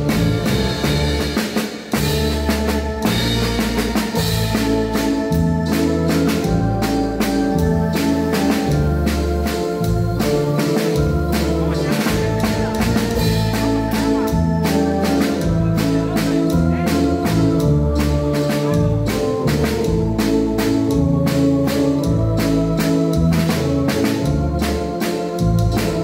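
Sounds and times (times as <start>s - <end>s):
bass line: 0.0s - 26.0s
organ-like keyboard chords: 0.0s - 26.0s
timbales and cymbals beat: 0.0s - 26.0s.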